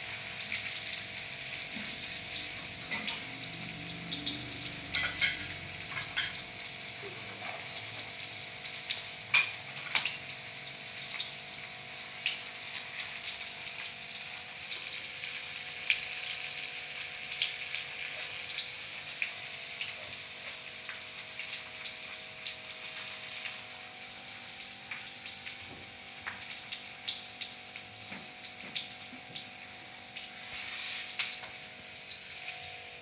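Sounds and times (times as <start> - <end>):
spices sizzling in hot oil: 0.0 - 33.0.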